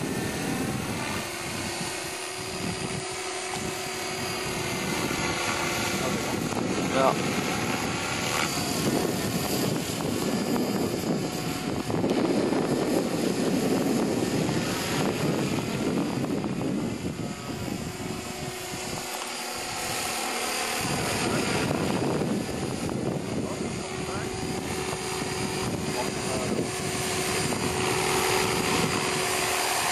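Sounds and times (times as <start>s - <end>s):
model helicopter rotor buzz: 0.0s - 29.9s.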